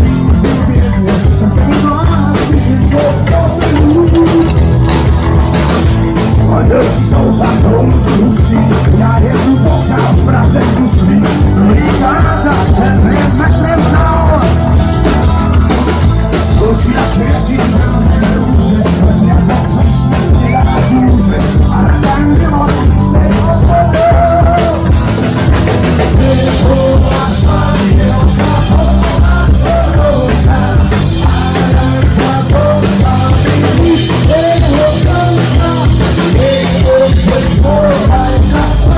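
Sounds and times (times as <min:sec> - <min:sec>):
person singing: 0:00.0 - 0:38.9
punk rock band playing live: 0:00.0 - 0:38.9.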